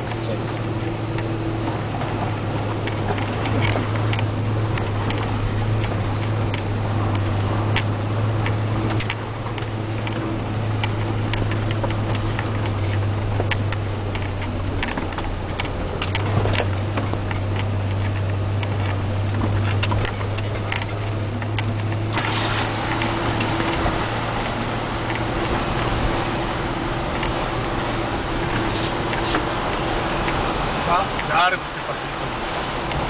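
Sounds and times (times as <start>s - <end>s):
vehicle engine running: 0.0s - 33.0s
water and mud splashing: 0.0s - 33.0s.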